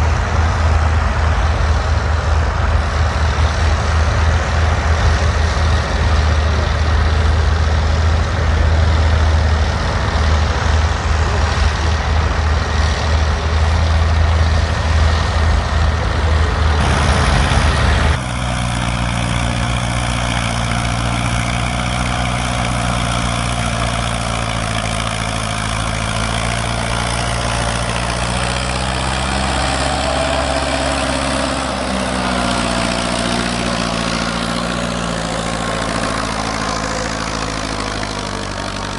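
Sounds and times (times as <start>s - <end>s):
deep engine running: 0.0s - 38.9s
engine idling with humming tone: 0.0s - 38.9s.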